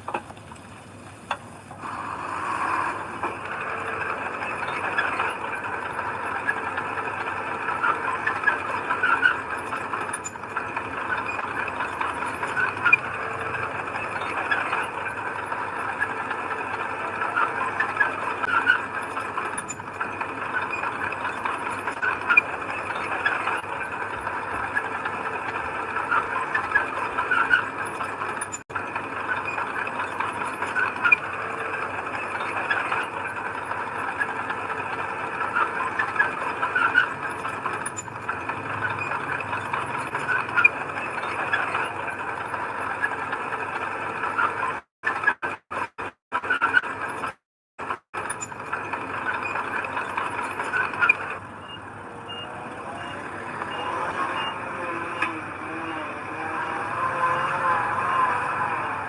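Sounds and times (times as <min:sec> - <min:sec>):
bulldozer diesel engine: 0:00.0 - 0:44.8, 0:47.8 - 0:59.0
track links squealing and rattling: 0:00.9 - 0:59.0.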